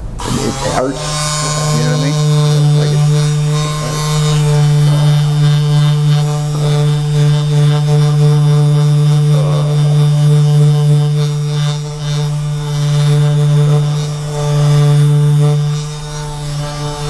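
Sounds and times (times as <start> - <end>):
electric buzz: 0.0 - 17.0.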